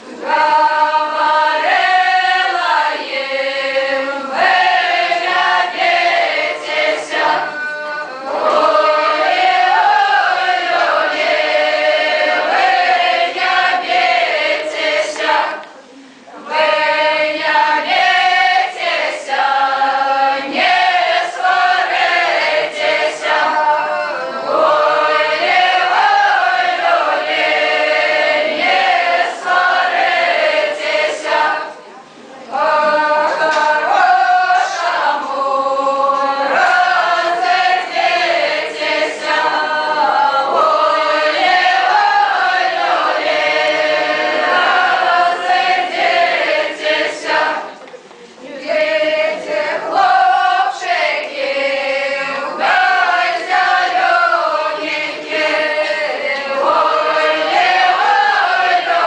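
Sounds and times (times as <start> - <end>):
group singing without accompaniment: 0.0 - 59.0.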